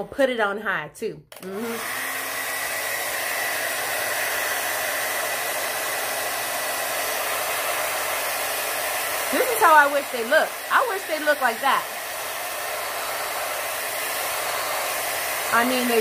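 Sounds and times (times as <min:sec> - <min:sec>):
hair dryer running: 0:01.3 - 0:16.0.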